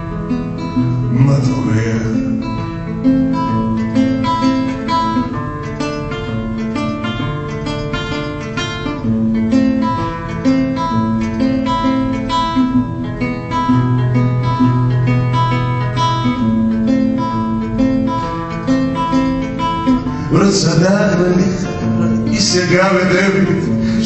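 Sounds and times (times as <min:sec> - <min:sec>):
acoustic guitar picked: 0:00.0 - 0:24.0.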